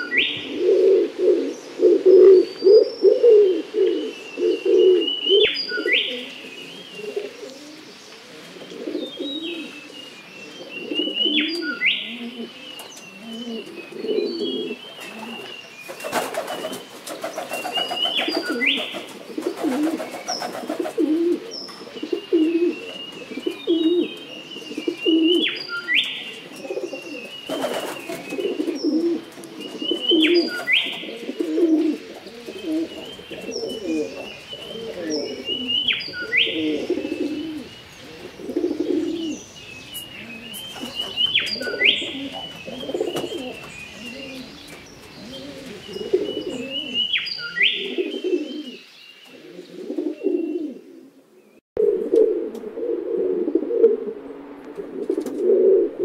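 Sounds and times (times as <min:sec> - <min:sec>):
songbirds chirping: 0:00.0 - 0:51.6
wood pigeon cooing: 0:00.0 - 0:56.0.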